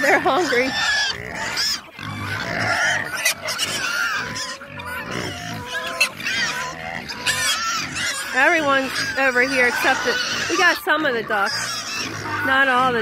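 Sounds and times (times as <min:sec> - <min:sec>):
chickens calling: 0:00.0 - 0:13.0
pigs squealing and grunting: 0:00.0 - 0:13.0.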